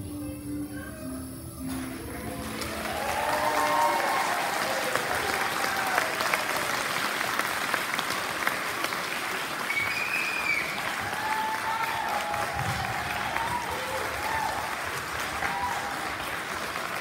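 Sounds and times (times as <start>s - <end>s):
audience applauding: 1.8s - 17.0s.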